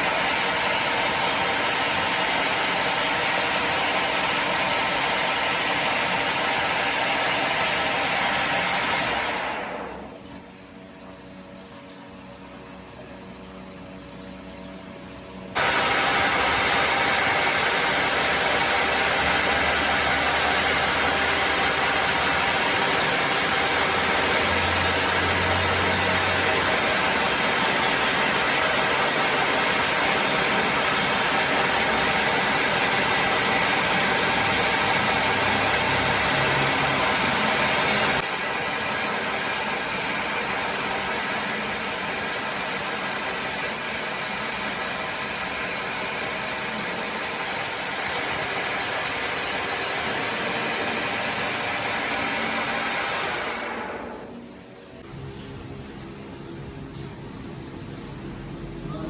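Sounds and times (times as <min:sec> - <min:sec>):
workshop machinery running: 0:00.0 - 0:59.0.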